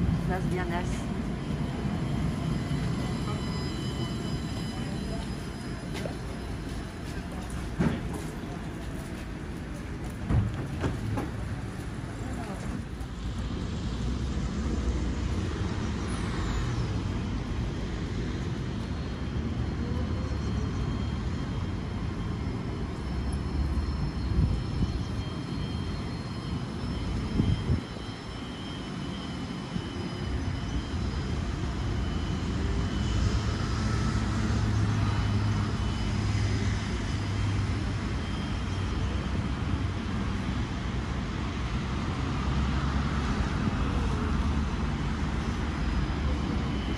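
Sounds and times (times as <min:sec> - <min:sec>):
tram running: 0:00.0 - 0:46.9.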